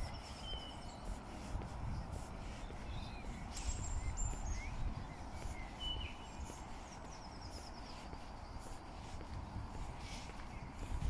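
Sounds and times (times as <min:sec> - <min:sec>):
footsteps on asphalt: 0:00.0 - 0:11.0
songbirds chirping: 0:00.0 - 0:11.0.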